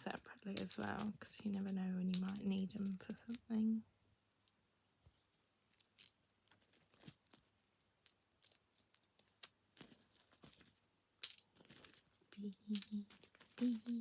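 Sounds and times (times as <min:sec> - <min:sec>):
beads clicking and rattling: 0:00.0 - 0:03.6, 0:05.6 - 0:14.0.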